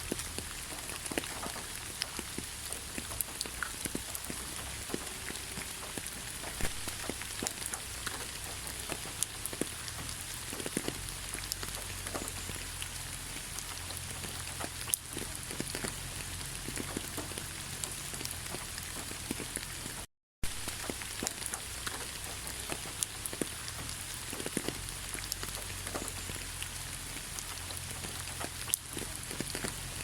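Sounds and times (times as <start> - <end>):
raindrops ticking close by: 0.0 - 30.0
steady rain hiss: 0.0 - 30.0.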